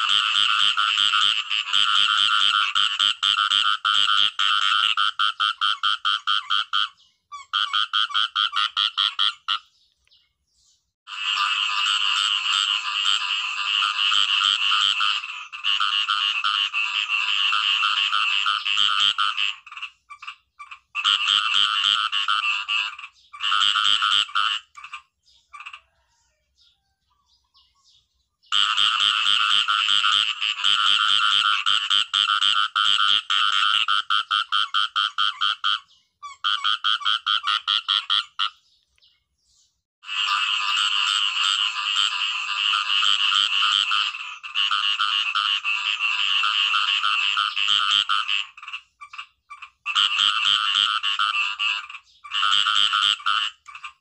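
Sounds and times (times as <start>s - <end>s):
deeper pulsed frog call: 0.0s - 9.7s, 11.1s - 26.1s, 28.5s - 38.6s, 40.0s - 54.0s
frogs croaking in rapid pulses: 0.0s - 9.7s, 11.1s - 26.2s, 28.5s - 38.6s, 40.0s - 54.0s.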